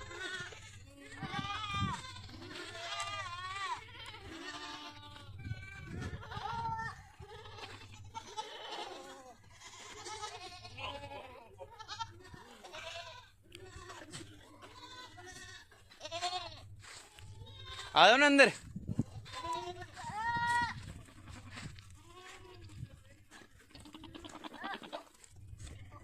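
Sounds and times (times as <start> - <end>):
goats bleating: 0.0 - 26.0.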